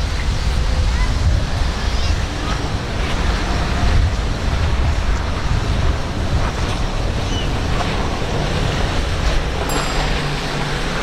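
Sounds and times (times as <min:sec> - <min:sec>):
wind buffeting microphone: 0:00.0 - 0:11.0
outboard motors rumbling past: 0:00.1 - 0:11.0.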